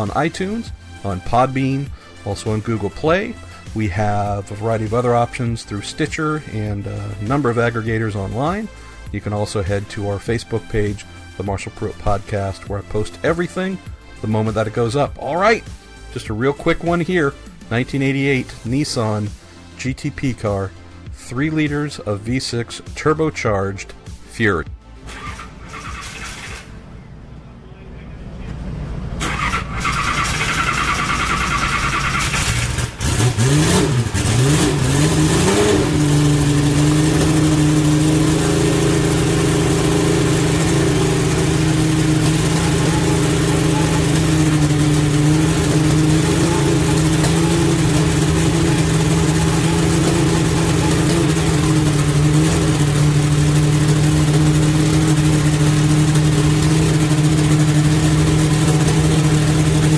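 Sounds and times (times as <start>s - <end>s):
race car engine starting and idling: 0.0s - 59.9s.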